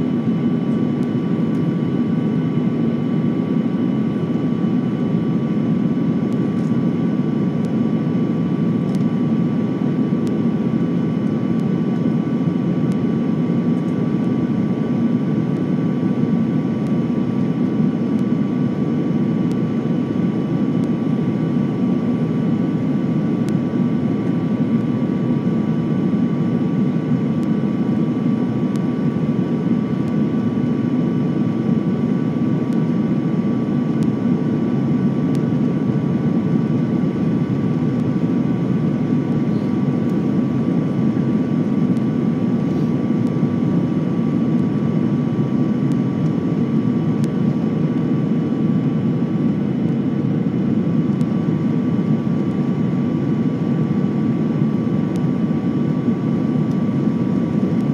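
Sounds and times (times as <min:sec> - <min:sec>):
thin steady whine: 0:00.0 - 0:57.9.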